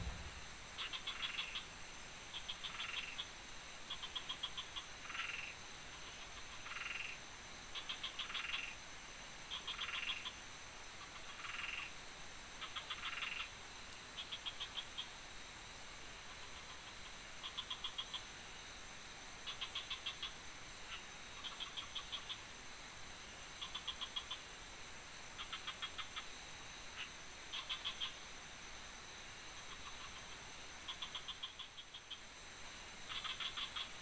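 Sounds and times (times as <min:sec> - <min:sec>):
frogs trilling: 0:00.0 - 0:34.0
steady high-pitched hum: 0:00.0 - 0:34.0.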